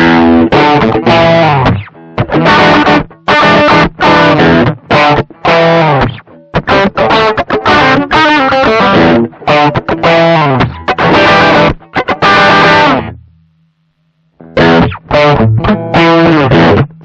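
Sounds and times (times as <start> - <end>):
overdriven electric guitar chord stabs: 0.0 - 13.5, 14.2 - 17.0.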